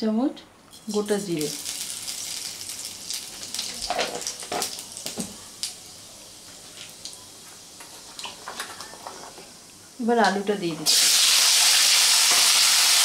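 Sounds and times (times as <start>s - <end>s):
seeds sizzling in hot oil: 0.7s - 13.0s.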